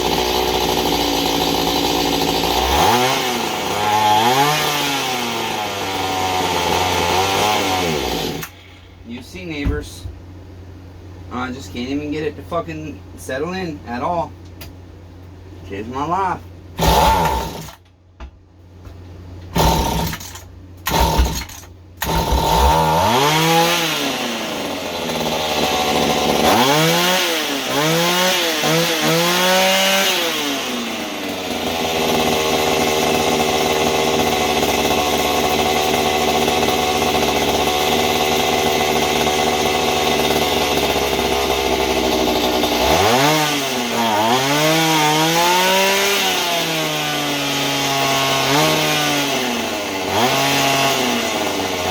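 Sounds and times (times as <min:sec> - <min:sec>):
small tiller engine revving: 0:00.0 - 0:08.7, 0:16.8 - 0:17.8, 0:19.5 - 0:51.9.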